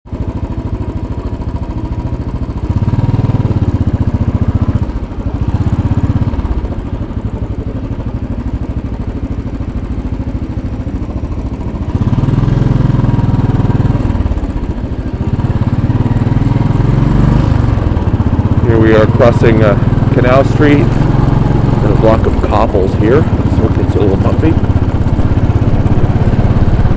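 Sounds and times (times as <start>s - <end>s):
motorcycle engine running: 0.1s - 26.9s.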